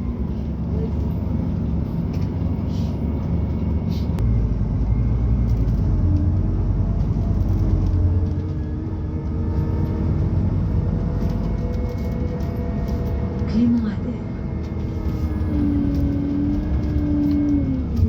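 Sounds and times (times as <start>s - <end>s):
bus engine rumble: 0.0s - 18.0s
faint drivetrain whine: 0.0s - 18.0s.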